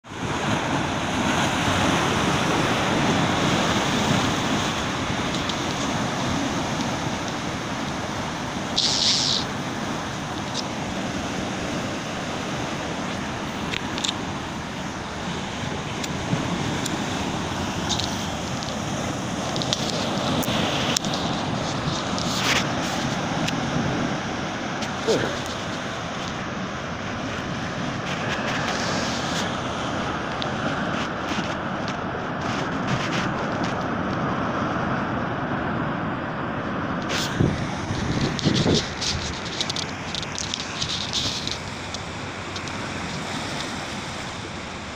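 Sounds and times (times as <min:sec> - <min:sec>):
ocean surf breaking on rocks: 0:00.0 - 0:44.9.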